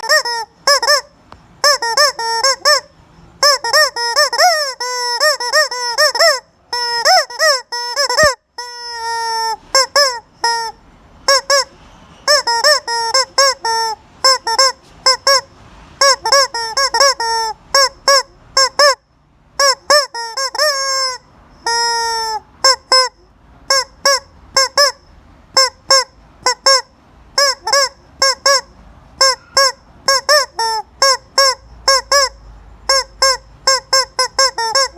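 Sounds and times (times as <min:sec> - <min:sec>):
toy chicken clucking: 0:00.0 - 0:19.0, 0:19.6 - 0:34.9.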